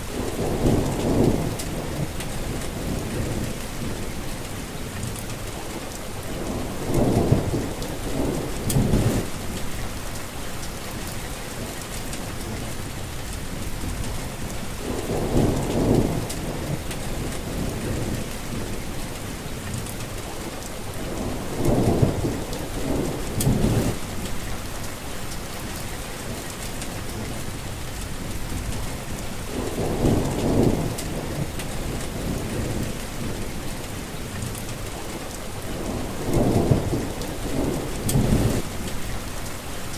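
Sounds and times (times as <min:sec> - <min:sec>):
thunder rumbling: 0:00.0 - 0:04.3, 0:06.2 - 0:10.2, 0:13.4 - 0:19.2, 0:20.9 - 0:25.0, 0:25.6 - 0:39.6
steady rain falling: 0:00.0 - 0:39.9.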